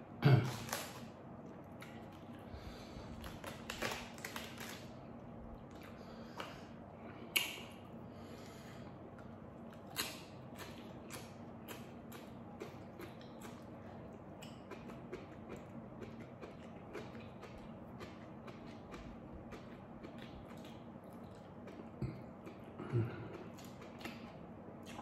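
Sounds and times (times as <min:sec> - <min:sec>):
faint steady hum: 0:00.0 - 0:25.0
crunching and chewing cabbage: 0:00.4 - 0:25.0.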